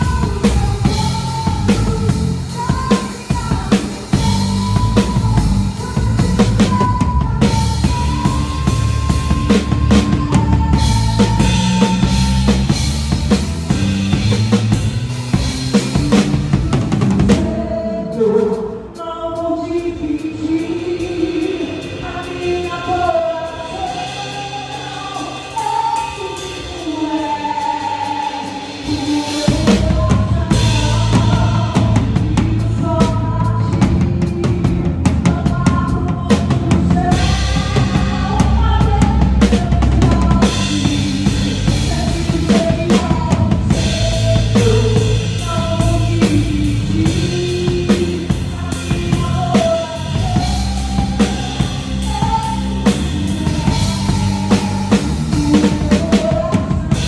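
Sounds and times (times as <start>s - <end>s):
drum kit beat: 0.0s - 57.0s
gospel singing: 0.0s - 57.0s
live band playing: 0.0s - 57.0s.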